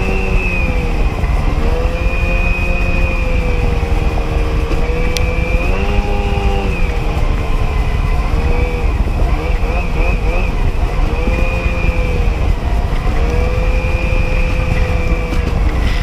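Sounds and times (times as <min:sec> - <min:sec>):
watercraft engine running: 0:00.0 - 0:16.0
wind and water rumble: 0:00.0 - 0:16.0.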